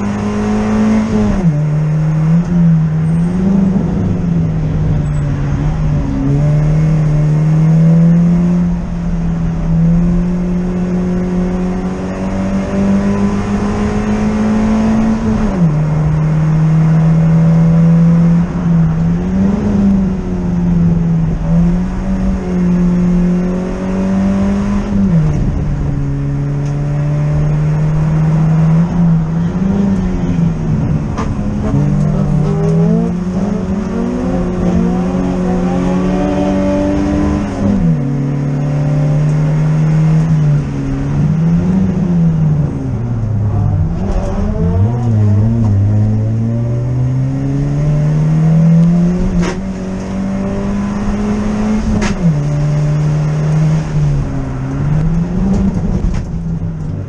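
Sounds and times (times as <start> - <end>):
car engine revving high: 0.0 - 57.0
road and tyre noise: 0.0 - 57.0.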